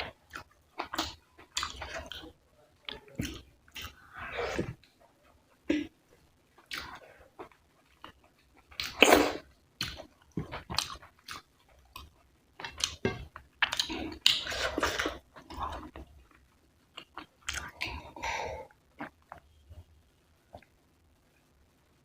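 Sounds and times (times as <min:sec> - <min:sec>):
chewing and crunching food: 0:00.0 - 0:19.8.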